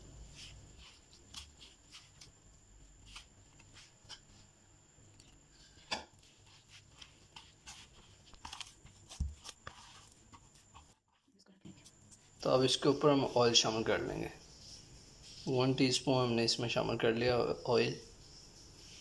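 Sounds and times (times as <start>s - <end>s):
hand mixing dough in a bowl: 0.0s - 17.6s.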